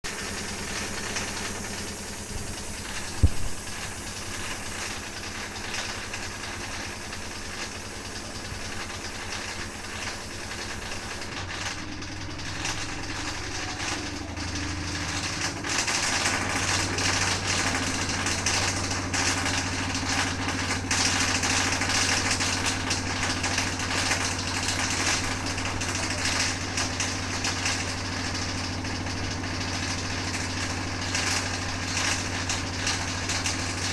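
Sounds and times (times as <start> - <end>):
washing machine rattling: 0.1 - 33.9.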